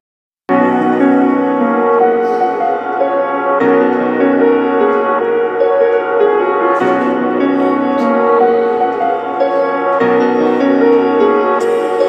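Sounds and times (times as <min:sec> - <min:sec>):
instrumental piano chords: 0:00.5 - 0:12.0.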